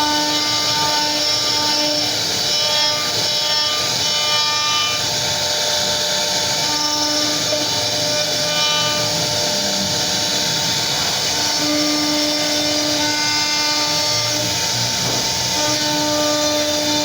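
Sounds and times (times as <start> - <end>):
bit rasping into wood: 0.0 - 5.1, 5.9 - 17.0
router spindle whine: 0.0 - 17.0.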